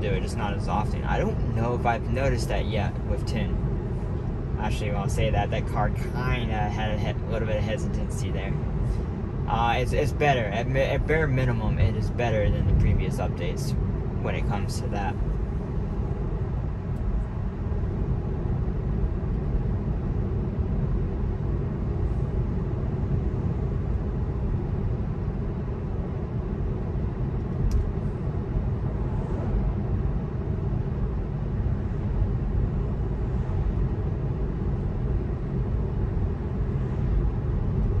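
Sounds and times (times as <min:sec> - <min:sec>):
road and tyre noise in car cabin: 0:00.0 - 0:38.0.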